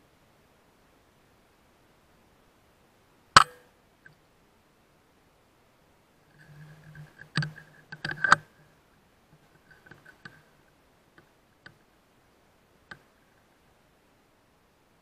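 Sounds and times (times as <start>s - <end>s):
low hum with higher whine: 0.0s - 15.0s.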